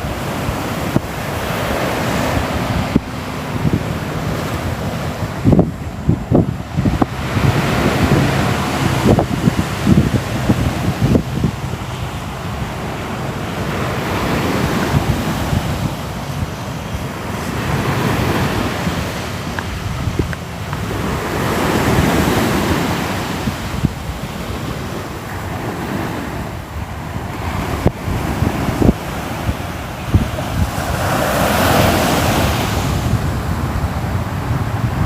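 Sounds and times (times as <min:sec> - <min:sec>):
ocean waves washing in: 0:00.0 - 0:35.0.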